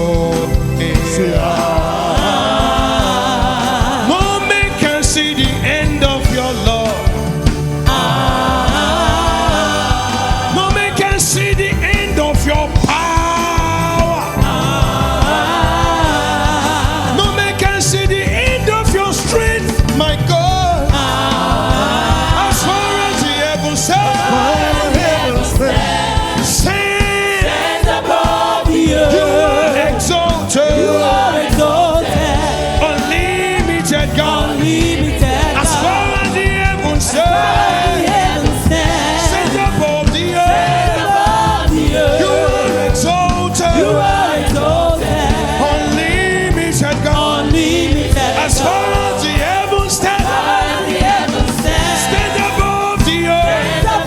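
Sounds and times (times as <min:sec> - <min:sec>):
gospel choir singing: 0:00.0 - 0:54.0
live band with steady beat: 0:00.0 - 0:54.0.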